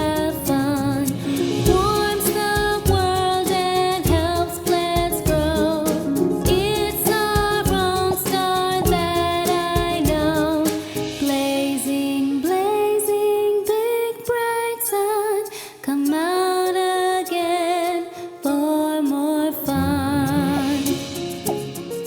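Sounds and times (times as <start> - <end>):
upbeat children's song: 0.0 - 22.0.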